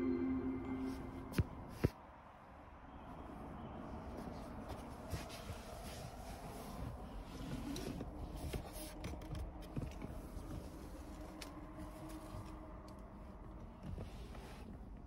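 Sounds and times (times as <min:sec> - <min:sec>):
faint low rumble and hum: 0:02.7 - 0:15.0.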